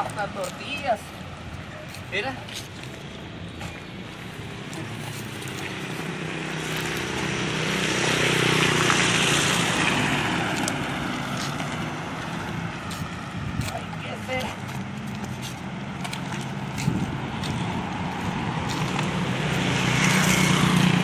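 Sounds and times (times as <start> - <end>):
motorcycle passing by: 3.9 - 21.0.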